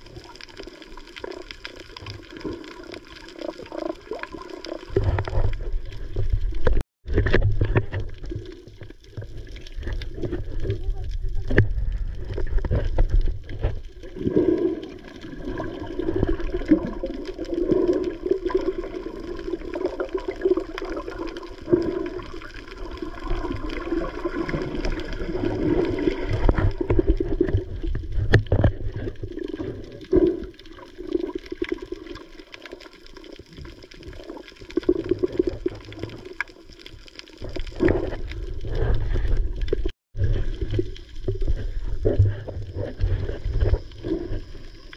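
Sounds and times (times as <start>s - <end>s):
muffled underwater sloshing: 0.0s - 44.9s.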